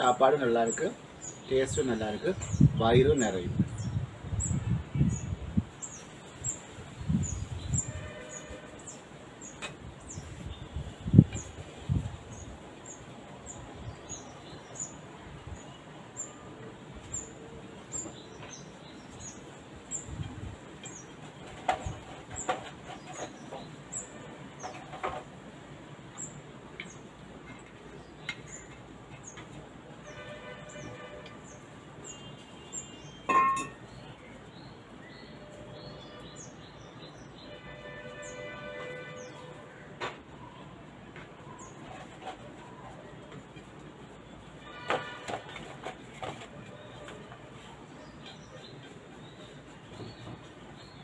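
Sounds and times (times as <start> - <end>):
small birds chirping: 0.0 - 16.4, 17.0 - 51.0.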